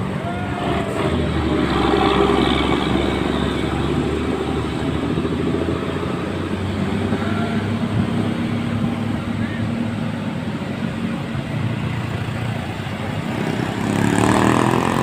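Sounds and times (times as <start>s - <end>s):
bus engine rumbling: 0.0s - 15.0s
street noise: 0.0s - 15.0s.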